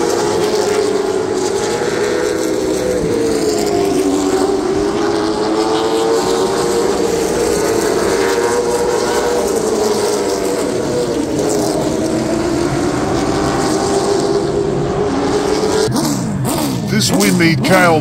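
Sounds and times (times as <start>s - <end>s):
racing car engines: 0.0s - 18.0s.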